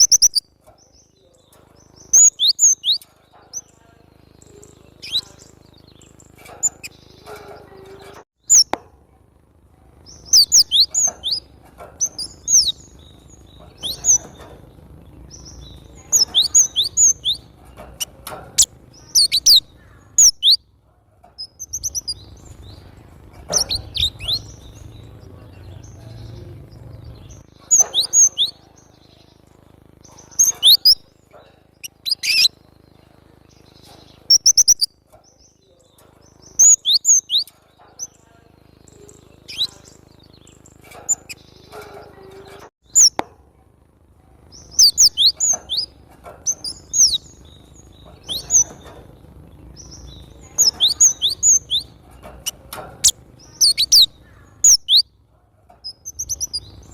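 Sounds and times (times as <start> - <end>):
bird chirping: 0.0 - 8.9, 9.9 - 43.3, 44.4 - 56.9.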